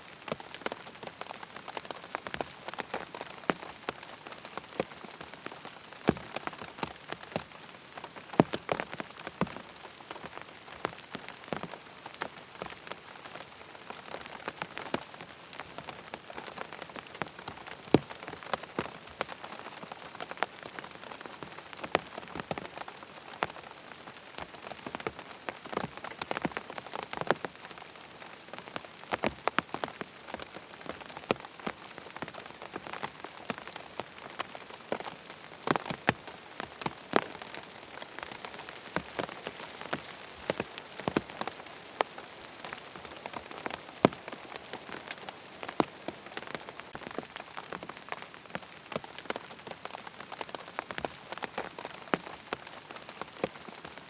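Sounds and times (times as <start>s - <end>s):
rain drops hitting surface: 0.0s - 54.0s.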